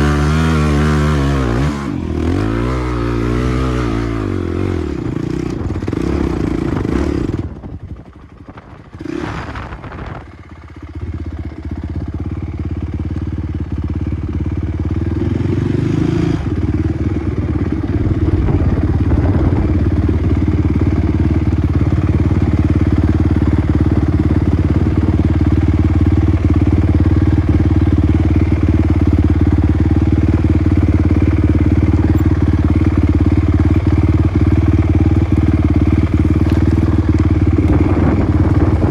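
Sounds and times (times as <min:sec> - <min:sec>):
motocross motorcycle engine: 0:00.0 - 0:38.9.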